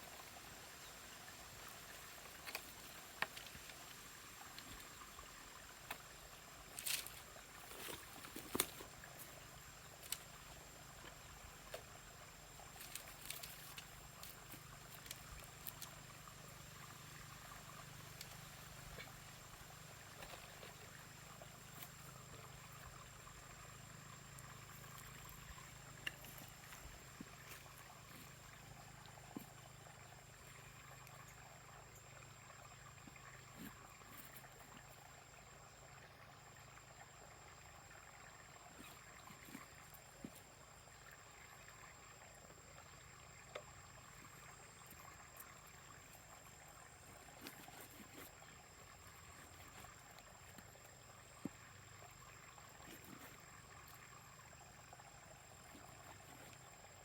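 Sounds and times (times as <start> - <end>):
faint stream trickling: 0.0 - 57.0.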